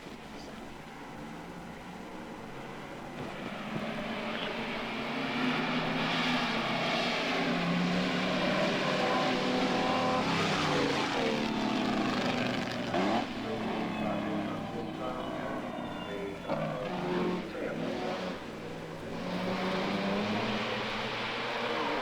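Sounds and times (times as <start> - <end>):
racing car engine passing: 1.7 - 22.0.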